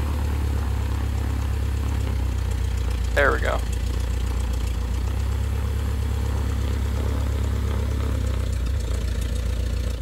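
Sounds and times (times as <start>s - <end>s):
piston aircraft engine droning: 0.0s - 10.0s.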